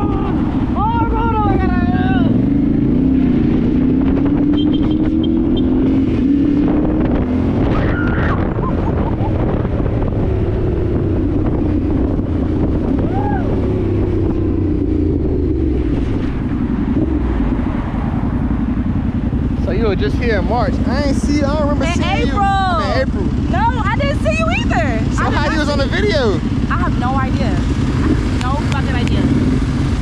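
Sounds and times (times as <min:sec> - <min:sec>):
dirt bike engine revving: 0:00.0 - 0:30.0
wind buffeting microphone: 0:00.0 - 0:30.0.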